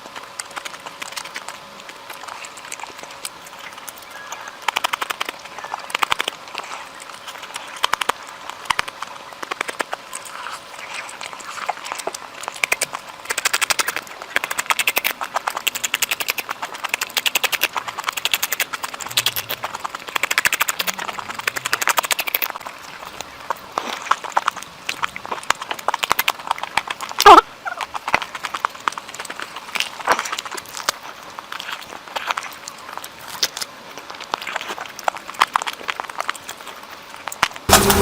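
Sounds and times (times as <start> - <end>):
lip smacks: 0.0 - 38.0
person chewing: 0.0 - 38.0.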